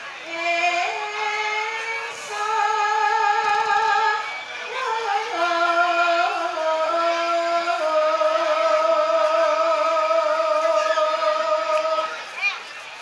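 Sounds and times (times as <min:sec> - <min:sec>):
woman singing with vibrato: 0:00.0 - 0:12.2.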